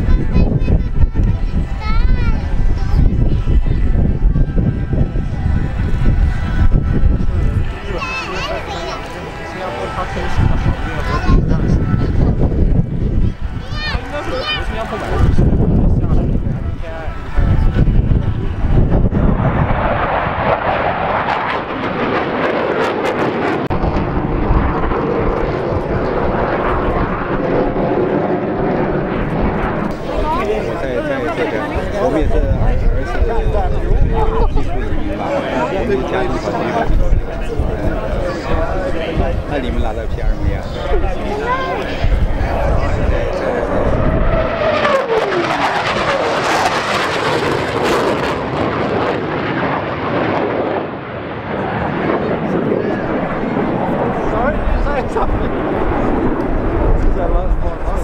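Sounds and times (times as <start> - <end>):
jet roar overhead: 0.0 - 58.0.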